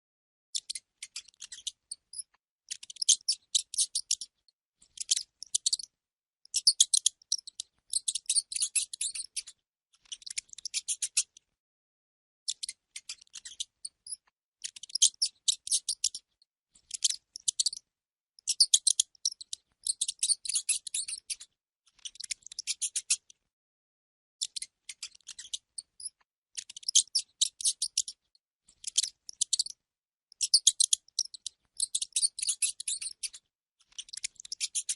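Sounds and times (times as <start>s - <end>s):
rodent squeaking and chittering: 0.6s - 5.9s, 6.5s - 11.4s, 12.5s - 23.4s, 24.4s - 34.9s.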